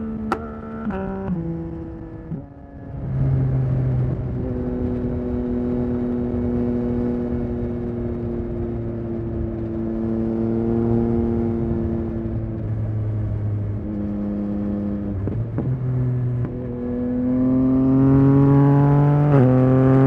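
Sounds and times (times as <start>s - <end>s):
motorcycle engine while riding: 0.0s - 20.0s.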